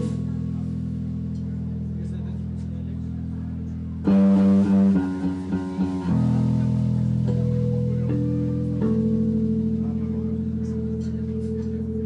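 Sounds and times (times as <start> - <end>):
bass drone: 0.0 - 12.0
electric guitar notes: 0.0 - 12.0.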